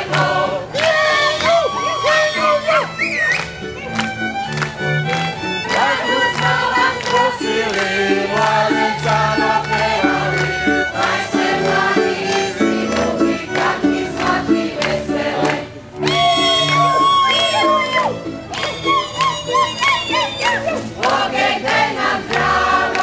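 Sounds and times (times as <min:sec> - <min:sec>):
voices singing: 0:00.0 - 0:03.1, 0:04.8 - 0:23.0
folk dance music: 0:00.0 - 0:23.0.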